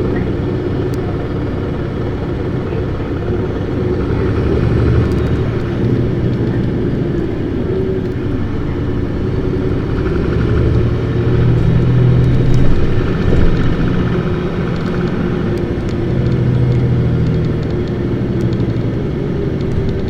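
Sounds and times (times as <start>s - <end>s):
diesel bus engine accelerating: 0.0s - 20.0s.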